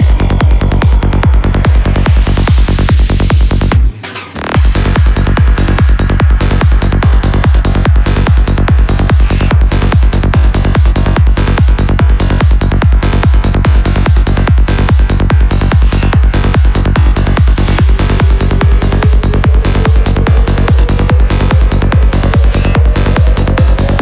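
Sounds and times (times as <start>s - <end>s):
four-on-the-floor kick drum: 0.0s - 4.0s, 4.6s - 24.0s
psytrance music: 0.0s - 24.0s.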